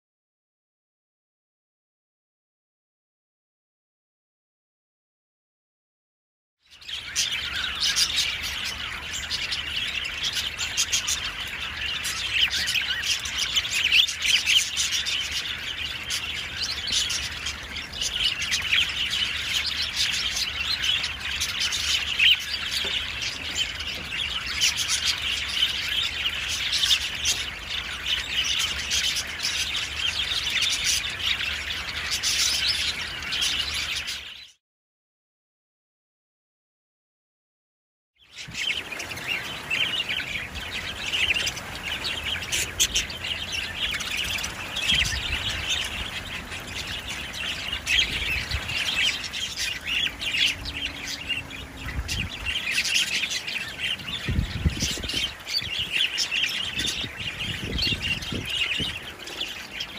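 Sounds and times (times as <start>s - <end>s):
budgerigars chattering: 6.8s - 34.4s, 38.4s - 59.9s.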